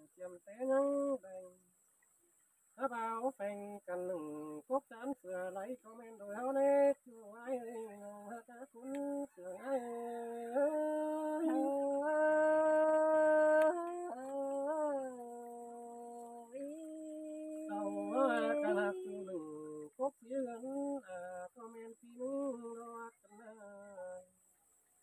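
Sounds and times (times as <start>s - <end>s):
person singing unaccompanied: 0.0s - 1.9s, 2.7s - 24.6s.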